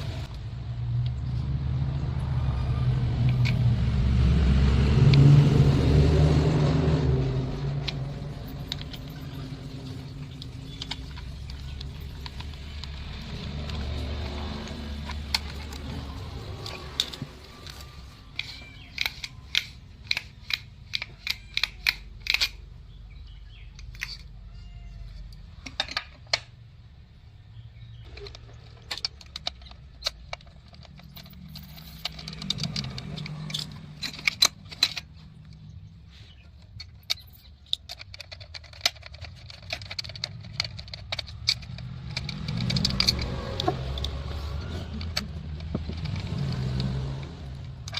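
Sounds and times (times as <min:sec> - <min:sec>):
metal parts and tools clicking: 0:02.6 - 0:26.9, 0:27.8 - 0:47.9.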